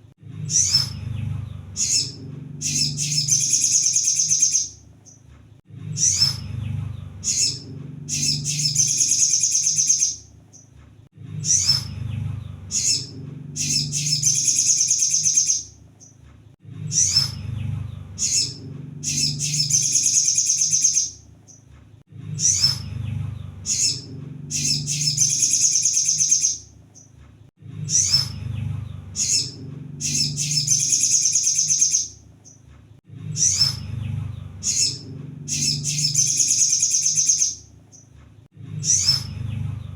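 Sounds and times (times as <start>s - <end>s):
low hum: 0.0s - 10.4s, 11.1s - 27.0s, 27.6s - 37.8s, 38.5s - 39.9s
bird chirps and trills: 0.3s - 16.2s, 16.8s - 27.2s, 27.8s - 39.9s.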